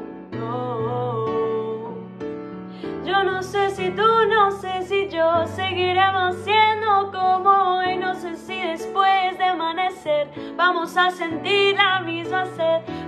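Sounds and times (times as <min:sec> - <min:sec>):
woman singing pop ballad: 0:00.3 - 0:13.0.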